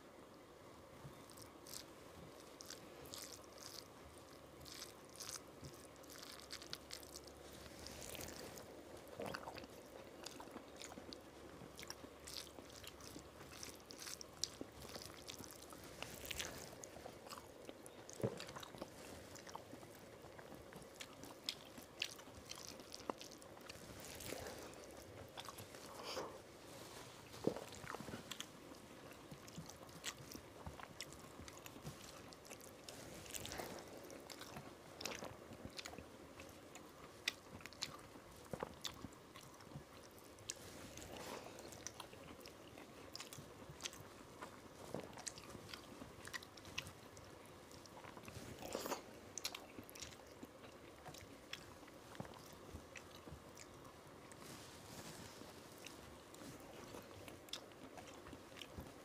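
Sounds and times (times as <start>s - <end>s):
man chewing food: 0.3s - 59.0s.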